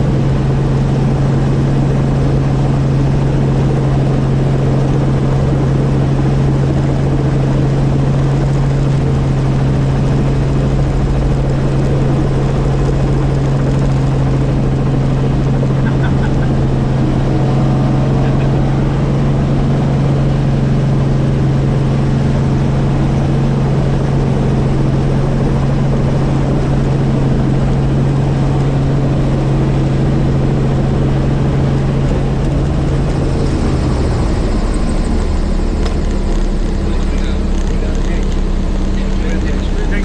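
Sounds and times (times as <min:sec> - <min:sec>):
helicopter in flight: 0:00.0 - 0:40.0.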